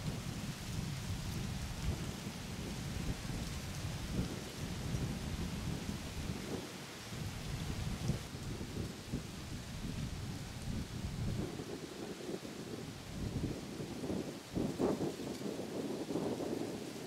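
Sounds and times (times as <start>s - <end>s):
wind gusting on microphone: 0.0s - 17.0s.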